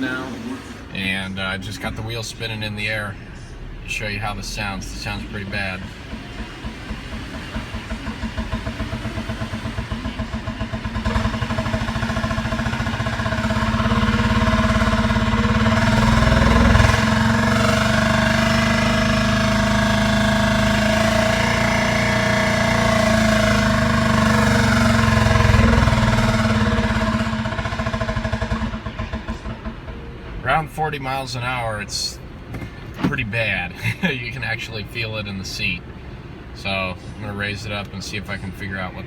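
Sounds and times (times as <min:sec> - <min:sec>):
rhythmic driveshaft clunking: 0:00.0 - 0:34.7
vehicle drivetrain running: 0:00.0 - 0:39.0.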